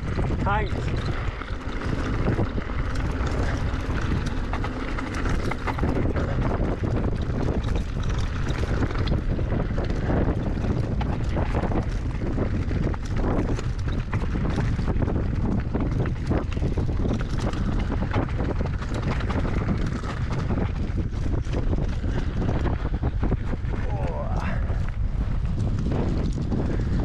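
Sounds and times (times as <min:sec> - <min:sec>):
bike rattling on stony path: 0:00.0 - 0:27.0
wind noise on microphone: 0:00.0 - 0:27.0.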